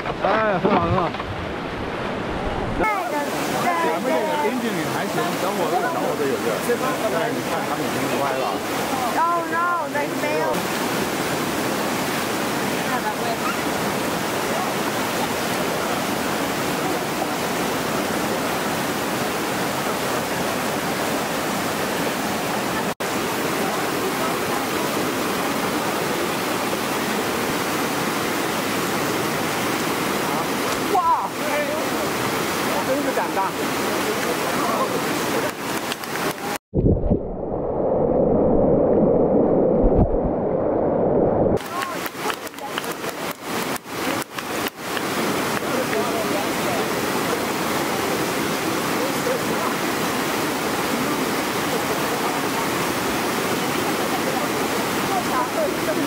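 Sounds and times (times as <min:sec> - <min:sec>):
whitewater rapids rushing: 0:00.0 - 0:36.6, 0:41.6 - 0:56.0
muffled underwater water rush: 0:00.0 - 0:56.0.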